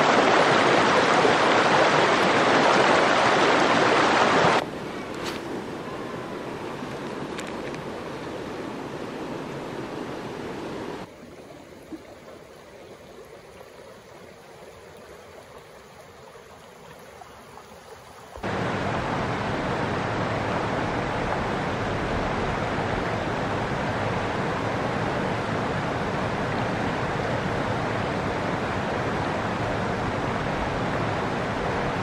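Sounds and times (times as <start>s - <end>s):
creek water flowing: 0.0s - 32.0s
stream running over rocks: 0.0s - 32.0s.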